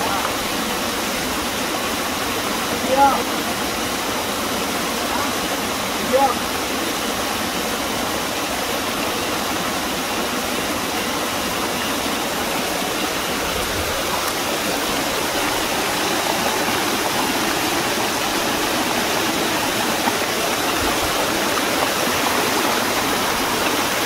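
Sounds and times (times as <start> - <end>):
water rushing down rocks: 0.0 - 24.0.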